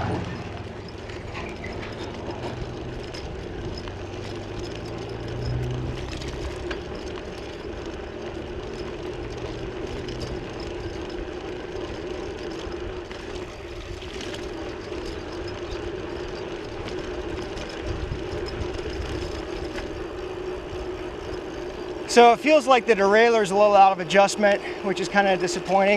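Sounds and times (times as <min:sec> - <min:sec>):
bicycle riding noise: 0:00.0 - 0:25.9.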